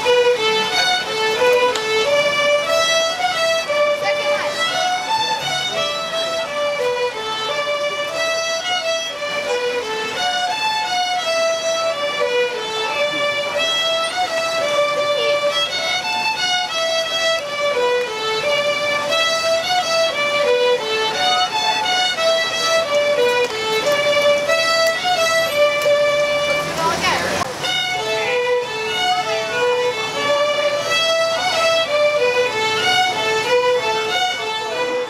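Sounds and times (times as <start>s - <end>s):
violin melody: 0.0s - 35.0s.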